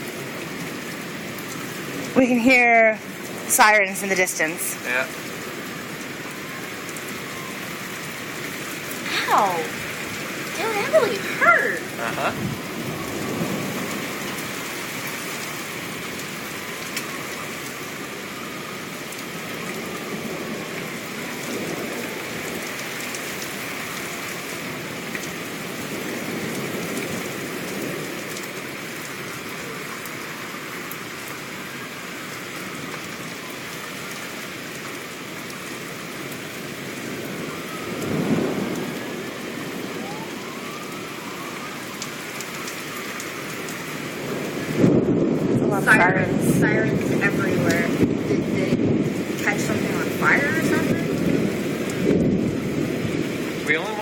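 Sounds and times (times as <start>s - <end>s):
distant sirens: 0.0s - 54.0s
heavy rain falling: 0.0s - 54.0s
thunder rumbling: 3.0s - 29.7s, 36.6s - 54.0s.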